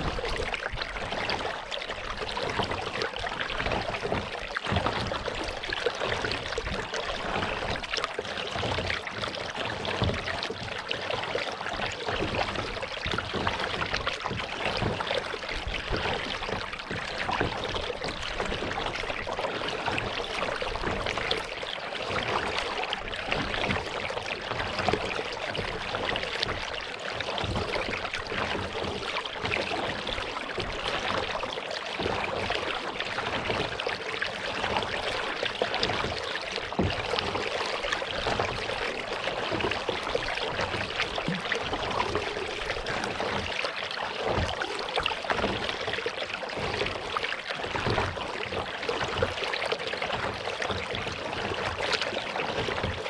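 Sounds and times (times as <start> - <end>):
water splashing around kayak: 0.0 - 53.0.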